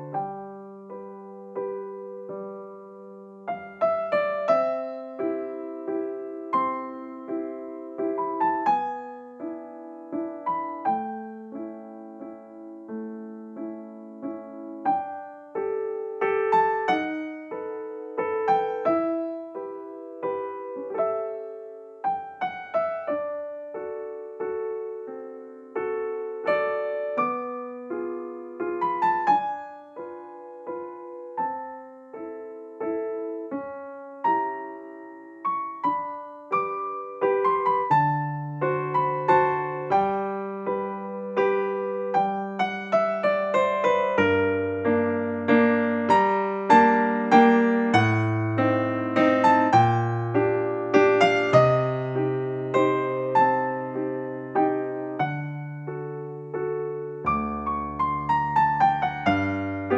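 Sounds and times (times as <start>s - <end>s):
gentle piano melody: 0.0s - 59.9s.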